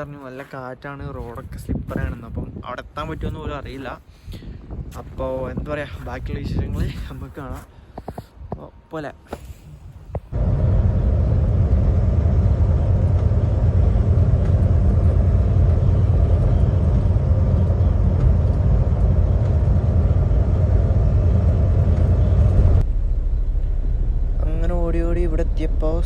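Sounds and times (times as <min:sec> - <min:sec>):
truck engine and road rumble: 0:04.8 - 0:26.0.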